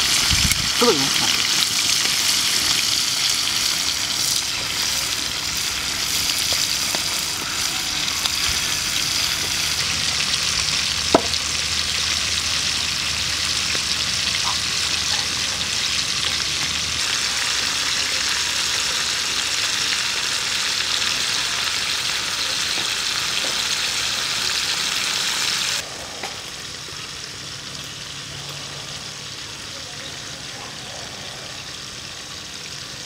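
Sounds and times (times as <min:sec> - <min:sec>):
meat deep-frying in oil: 0:00.0 - 0:33.0.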